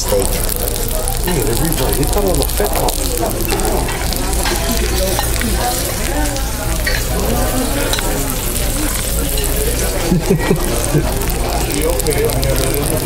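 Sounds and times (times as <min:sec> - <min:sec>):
steak sizzling: 0:00.0 - 0:13.0
voices murmuring: 0:00.0 - 0:13.0.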